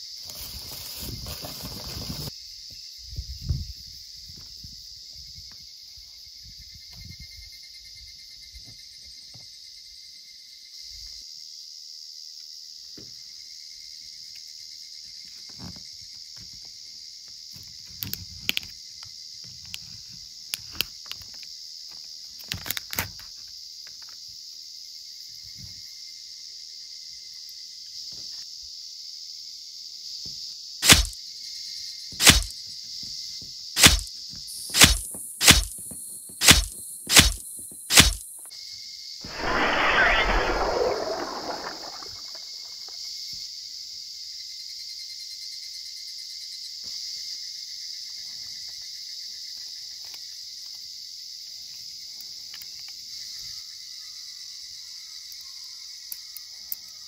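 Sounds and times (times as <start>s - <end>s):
high-pitched insect chorus: 0.0s - 15.9s, 23.6s - 57.0s.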